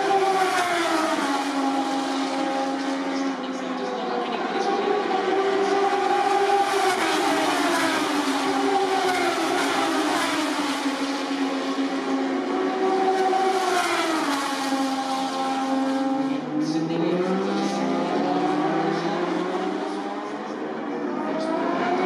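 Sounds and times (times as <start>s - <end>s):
racing motorcycles engines: 0.0s - 22.0s.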